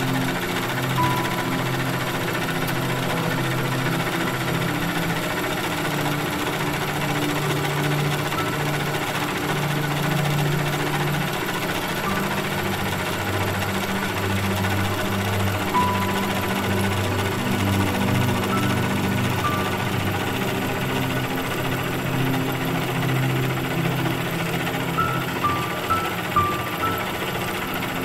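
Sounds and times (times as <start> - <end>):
milling machine drilling metal: 0.0 - 28.0.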